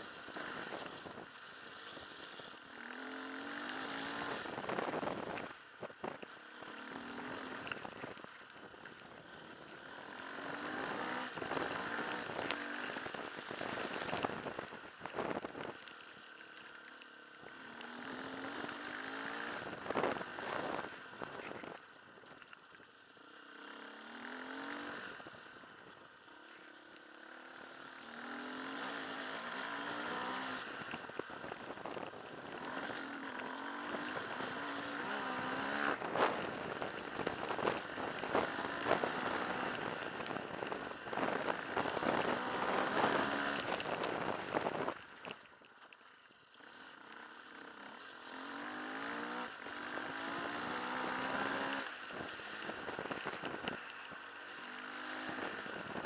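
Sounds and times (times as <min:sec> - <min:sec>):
motorcycle engine revving: 0:00.0 - 0:21.8, 0:23.1 - 0:45.1, 0:46.6 - 0:56.0
wind and road noise: 0:00.0 - 0:56.0.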